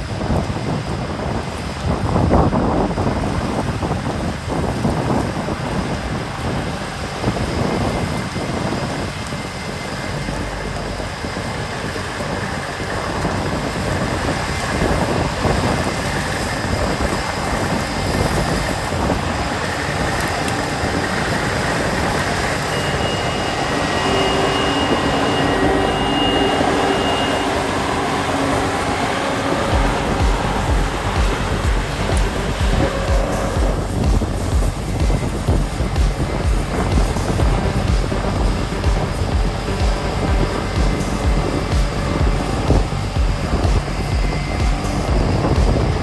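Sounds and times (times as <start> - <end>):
harvester engine and machinery: 0.0 - 46.0
steady whine: 0.0 - 46.0.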